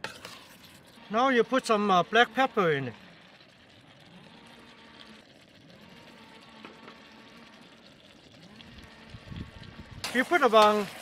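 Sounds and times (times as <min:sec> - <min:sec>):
sauce simmering in a wok: 0:00.0 - 0:11.0.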